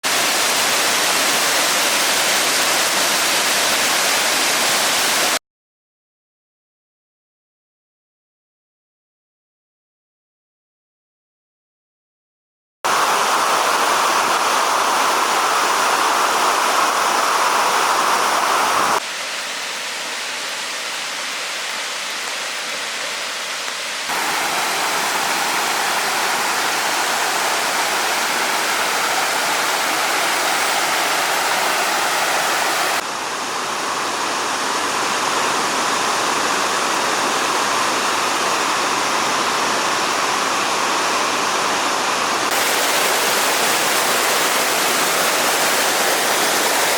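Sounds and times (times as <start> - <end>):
waterfall rushing and splashing: 0.0 - 5.4, 12.9 - 46.9.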